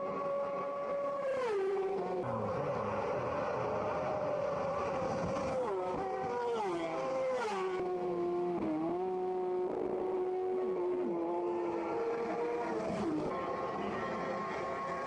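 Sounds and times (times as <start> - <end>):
motorcycle engine revving high: 1.8 - 15.0.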